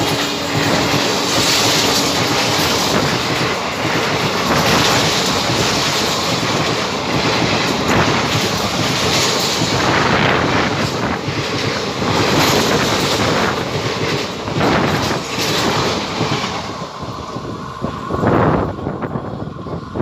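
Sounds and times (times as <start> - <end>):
clickety-clack over rail joints: 0.0 - 20.0
train wheels rushing on rails: 0.0 - 20.0.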